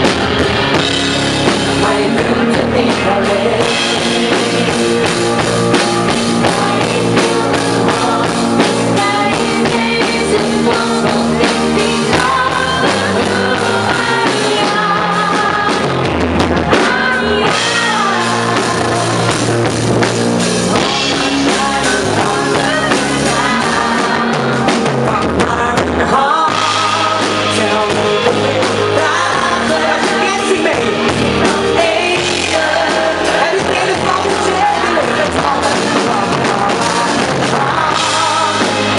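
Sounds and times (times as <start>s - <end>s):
drum kit: 0.0s - 38.9s
person singing: 0.0s - 38.9s
pop-rock band playing: 0.0s - 38.9s.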